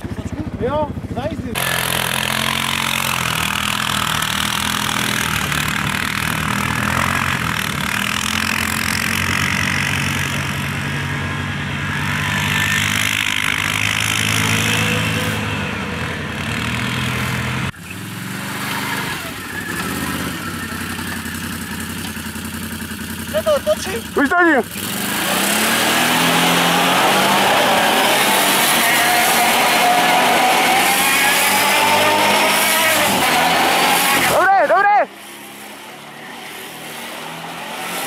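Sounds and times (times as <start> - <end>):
quad bike engines revving: 0.0 - 38.0.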